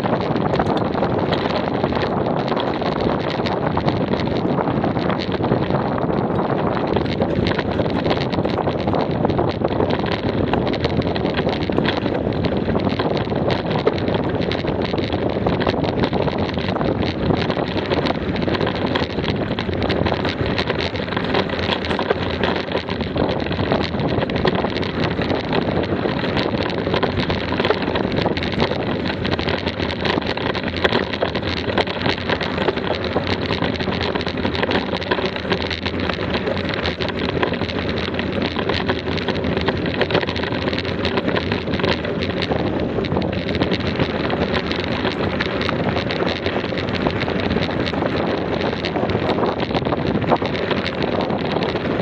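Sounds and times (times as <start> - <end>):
bicycle rattling: 0.0 - 52.0
tyres on loose stones: 0.0 - 52.0
wind on microphone: 0.0 - 52.0.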